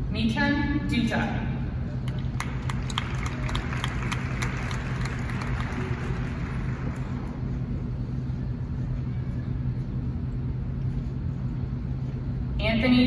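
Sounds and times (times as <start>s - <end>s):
low hum and rumble: 0.0s - 13.0s
faint crowd murmur: 1.6s - 12.6s.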